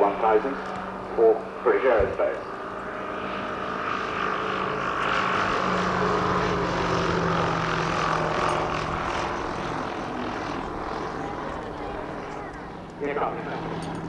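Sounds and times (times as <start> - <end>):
propeller plane flying past: 0.0 - 14.0.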